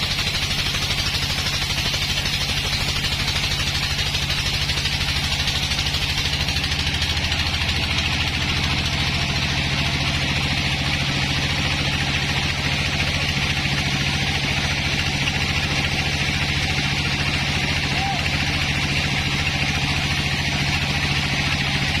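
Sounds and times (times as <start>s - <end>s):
sawmill engine running: 0.0s - 22.0s.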